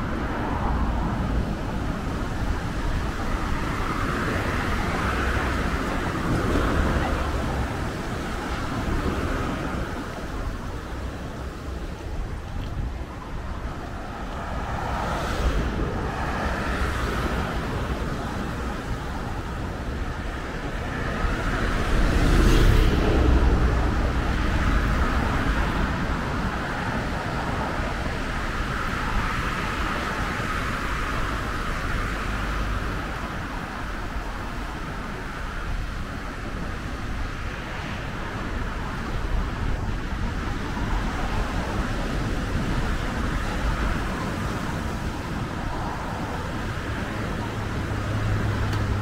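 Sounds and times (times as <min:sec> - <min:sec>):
road traffic passing: 0:00.0 - 0:49.0
surf breaking on shore: 0:00.0 - 0:49.0
wind rumble on microphone: 0:00.0 - 0:49.0.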